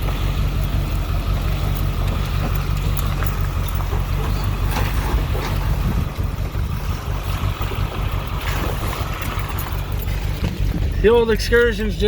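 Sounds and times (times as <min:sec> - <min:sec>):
knocks and rattles: 0:00.0 - 0:11.2
engine low rumble: 0:00.0 - 0:12.0.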